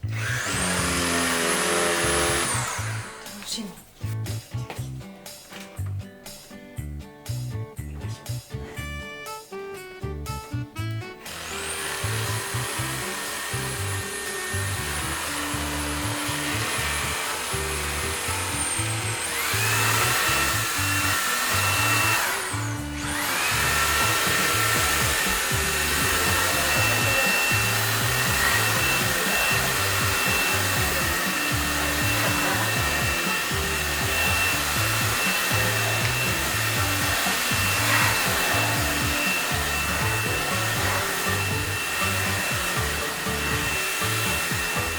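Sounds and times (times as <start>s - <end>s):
vacuum cleaner motor whining: 0.0s - 3.4s, 11.2s - 44.9s
background music with a beat: 2.6s - 44.9s.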